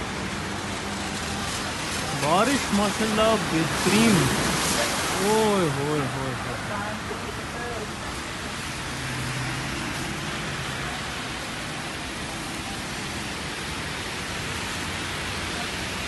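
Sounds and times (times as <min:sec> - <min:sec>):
car tyres on wet road: 0:00.0 - 0:16.0
rain hissing: 0:00.0 - 0:16.0.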